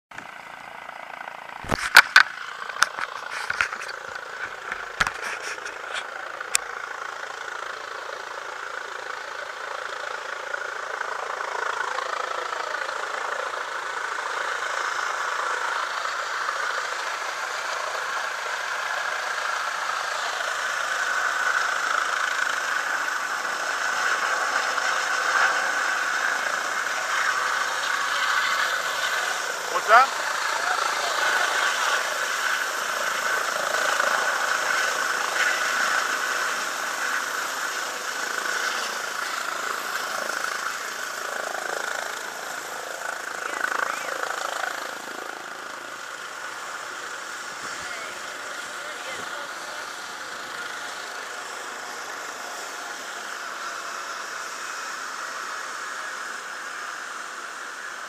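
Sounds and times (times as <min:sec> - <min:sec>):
helicopter rotor and turbine: 0:00.1 - 0:58.0.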